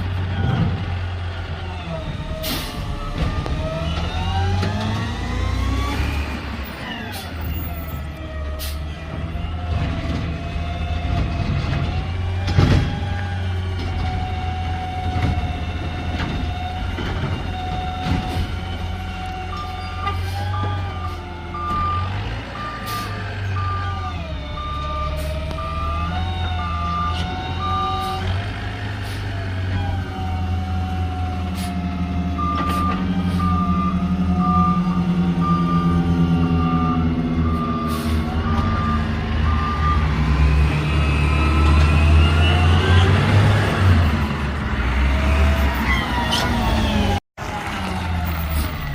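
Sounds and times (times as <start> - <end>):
garbage truck engine drone: 0.0 - 48.9.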